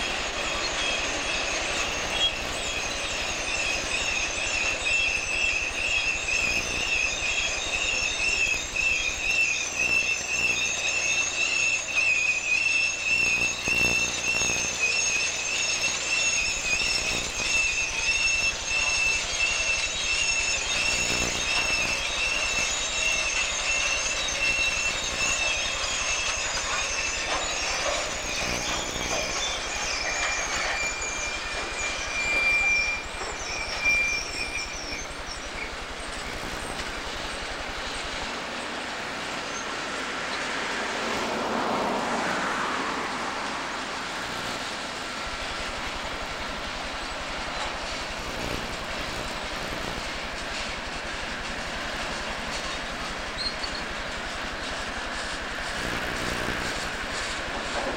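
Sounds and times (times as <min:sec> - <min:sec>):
freight train rolling rumble: 0:00.0 - 0:57.9
train wheels squealing: 0:00.0 - 0:57.9.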